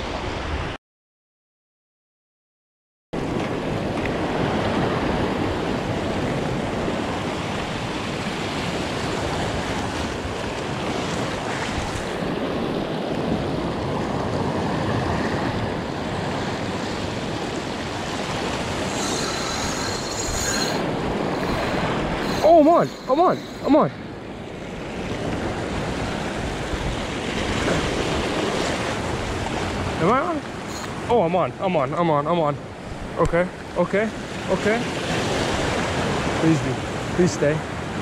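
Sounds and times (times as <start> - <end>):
ocean waves washing over rocks: 3.2 - 38.0.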